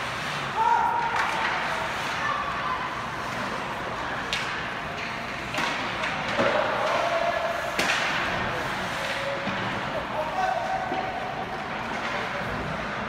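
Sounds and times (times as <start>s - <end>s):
hockey sticks and puck clacking: 0.0s - 13.0s
spectator chatter: 0.5s - 13.0s.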